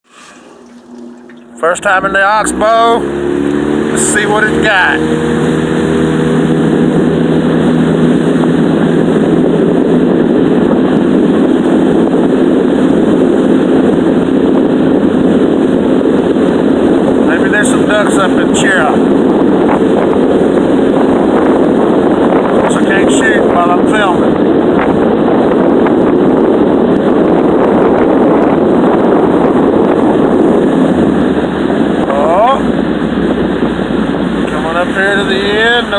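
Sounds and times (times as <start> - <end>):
outboard motor running: 0.0 - 35.9
wind buffeting microphone: 0.0 - 35.9.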